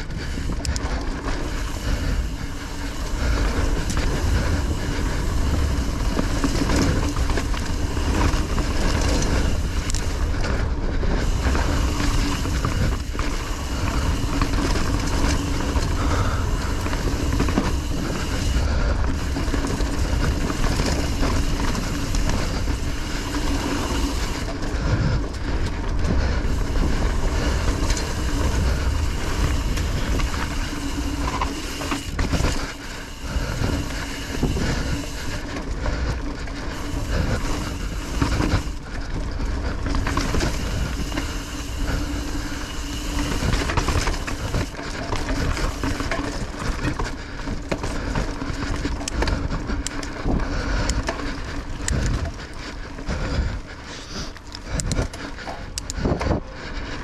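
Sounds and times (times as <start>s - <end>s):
bike tyres rolling over dirt: 0.0s - 57.0s
wind rumbling on microphone: 0.0s - 57.0s.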